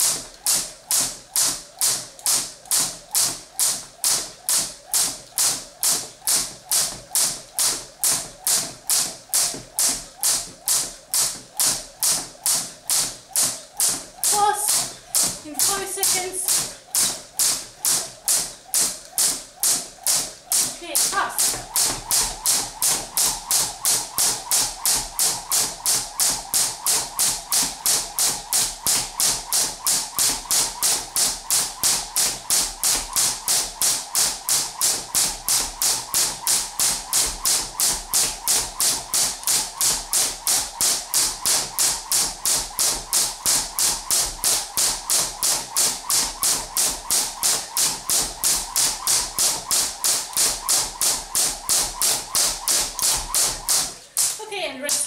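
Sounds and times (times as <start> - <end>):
jump rope slapping floor: 0.0 - 55.0.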